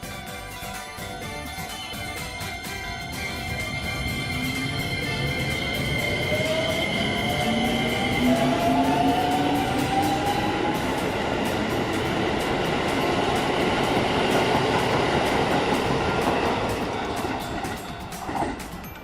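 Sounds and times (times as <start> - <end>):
electric train motors whining: 1.6 - 18.9
train wheels rumbling on rail: 1.7 - 19.0.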